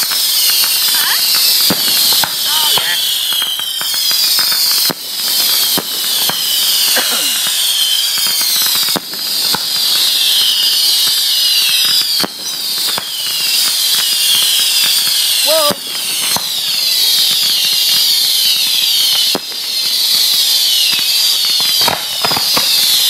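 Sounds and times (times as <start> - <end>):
fireworks bangs and crackles: 0.0 - 23.0
fireworks whistling hiss: 0.0 - 23.0.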